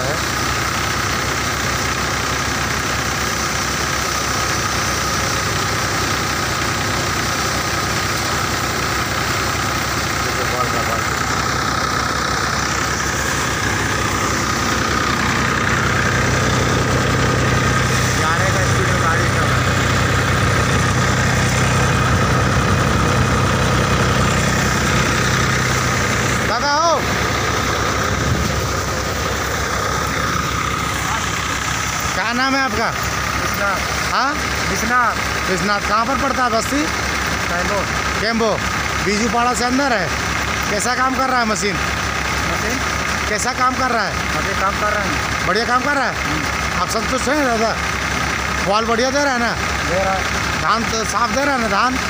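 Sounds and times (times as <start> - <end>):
threshing machine droning: 0.0 - 52.0
tractor diesel engine running: 0.0 - 52.0.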